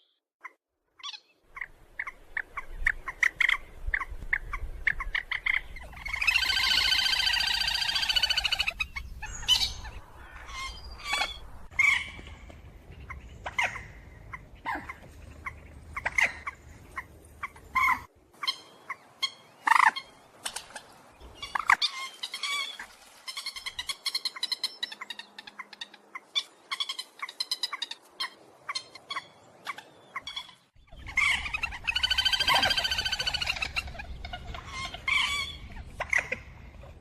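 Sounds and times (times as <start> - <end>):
rail bird calling: 1.0 - 37.0.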